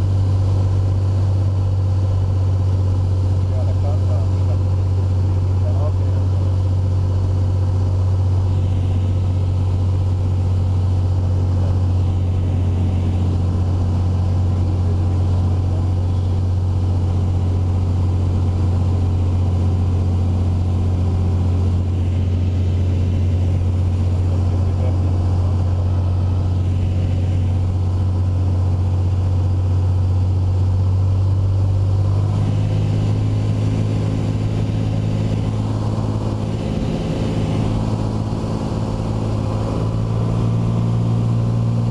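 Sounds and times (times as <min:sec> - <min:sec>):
light aircraft engine droning: 0:00.0 - 0:41.9.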